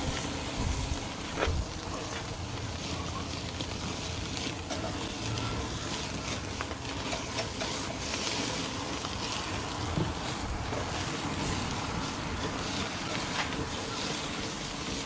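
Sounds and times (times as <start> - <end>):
burger patties sizzling on grill: 0.0 - 15.0
fire crackling: 0.0 - 15.0
metal spatula scraping grate: 2.7 - 15.0.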